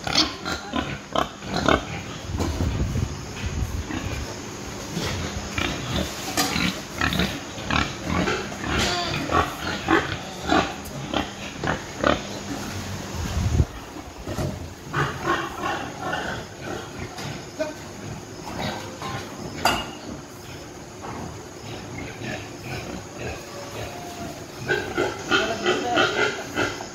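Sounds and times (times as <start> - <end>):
pigs calling: 0.0 - 2.5, 3.3 - 13.0, 13.6 - 26.9.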